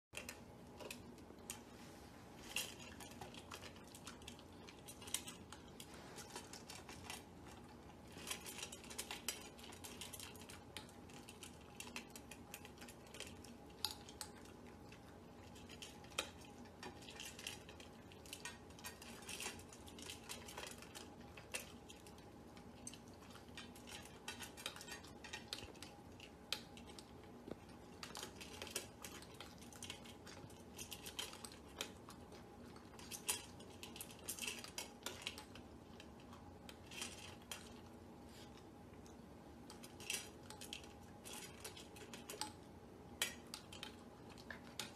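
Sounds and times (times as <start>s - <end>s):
puppies crunching dry food: 0.1s - 44.9s.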